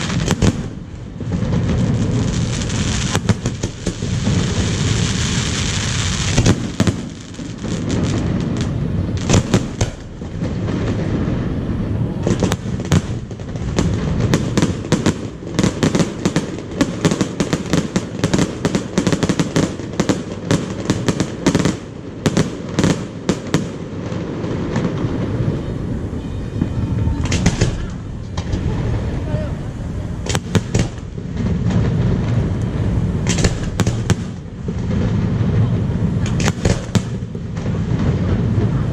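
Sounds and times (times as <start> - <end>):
fireworks cracking and popping: 0.0 - 38.9
rumble of fireworks booms: 0.0 - 38.9.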